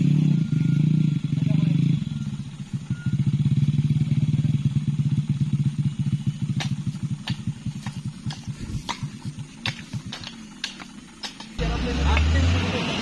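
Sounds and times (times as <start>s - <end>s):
engine idling putter: 0.0s - 13.0s.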